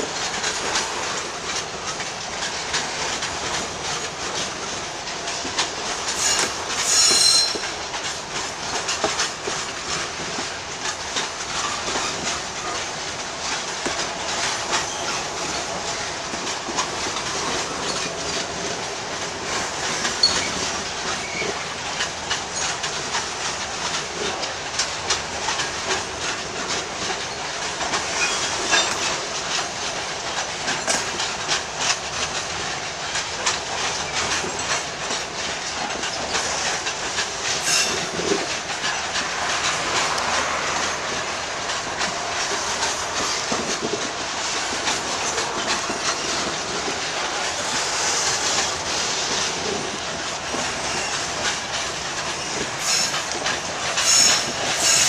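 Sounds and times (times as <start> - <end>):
train wheels clacking over rail joints: 0.0 - 55.0.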